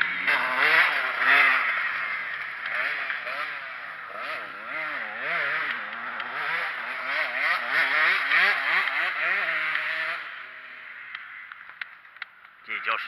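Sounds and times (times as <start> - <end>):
dirt bike engine revving: 0.0 - 11.8.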